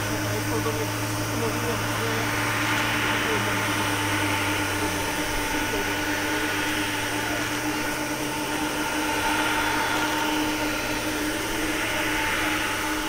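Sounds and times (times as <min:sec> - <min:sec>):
jet engines whining: 0:00.0 - 0:13.0
rushing hiss: 0:00.0 - 0:13.0.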